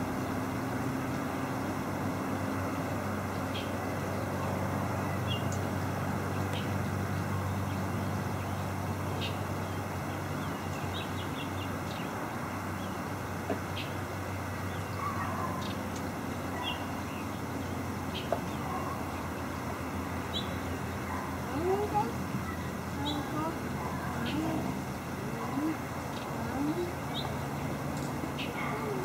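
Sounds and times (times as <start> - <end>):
distant traffic hum: 0.0 - 29.0
small birds chirping: 0.0 - 29.0.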